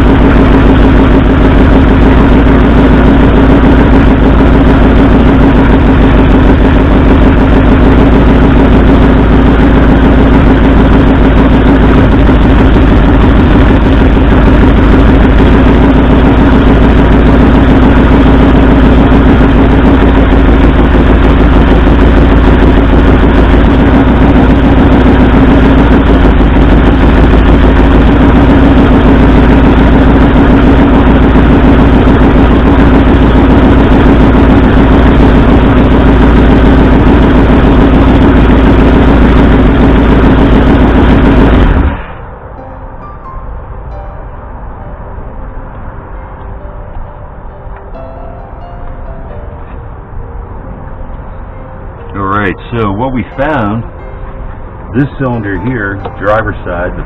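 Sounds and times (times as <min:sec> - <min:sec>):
engine idling with misfire: 0:00.0 - 0:42.5, 0:49.0 - 0:57.0.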